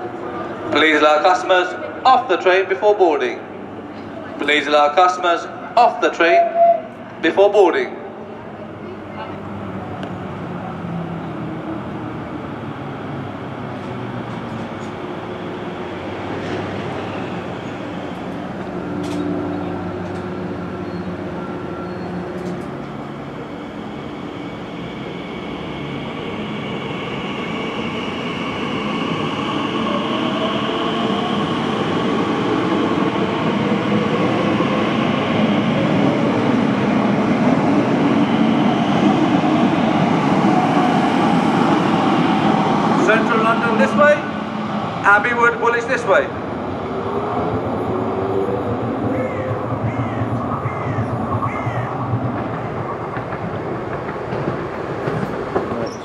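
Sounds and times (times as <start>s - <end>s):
electric train humming: 0.0s - 56.0s.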